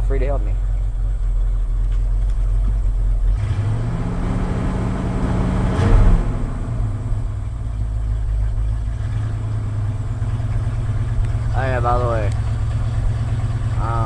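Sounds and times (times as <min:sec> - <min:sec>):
engine running rough: 0:00.0 - 0:14.0.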